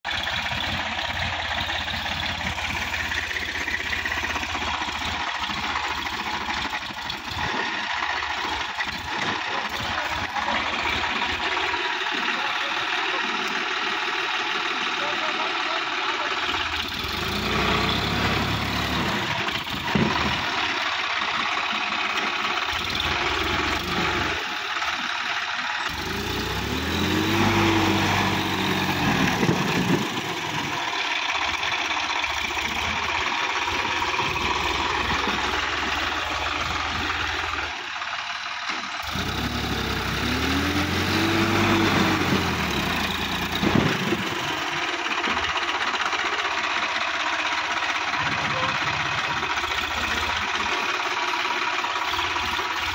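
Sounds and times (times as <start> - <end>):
tractor diesel engine revving: 0.0 - 52.9
tractor churning through mud: 0.1 - 52.9.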